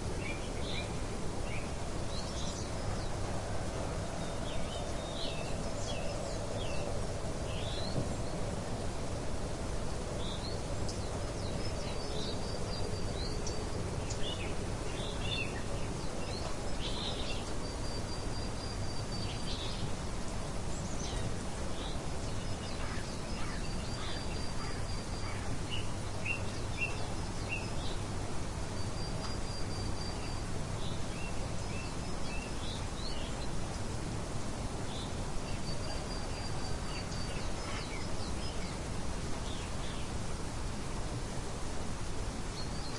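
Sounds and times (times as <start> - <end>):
songbirds chirping: 0.0 - 42.9
steady rain hiss: 0.0 - 42.9.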